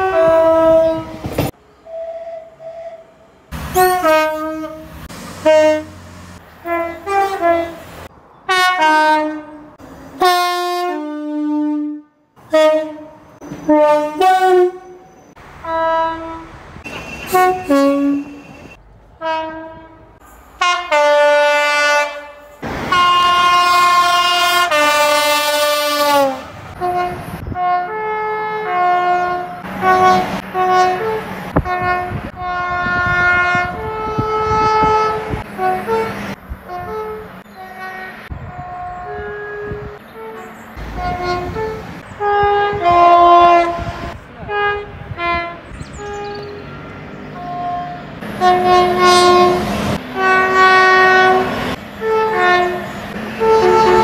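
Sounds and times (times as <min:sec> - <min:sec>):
two-tone train horn blasts: 0:00.0 - 0:06.0, 0:06.6 - 0:07.9, 0:08.5 - 0:46.6, 0:47.4 - 0:54.0
passing train rushing: 0:00.0 - 0:54.0.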